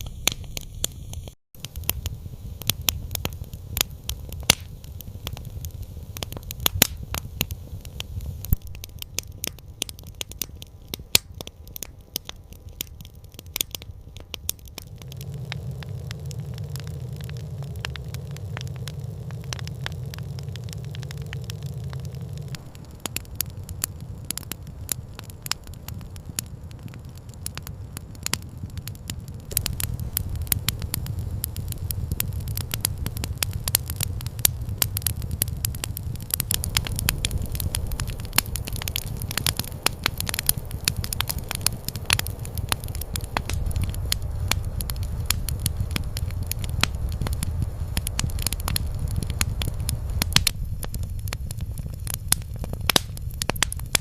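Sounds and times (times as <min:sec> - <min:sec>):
campfire crackling and popping: 0:00.0 - 0:54.0
steady low rumble: 0:00.0 - 0:54.0.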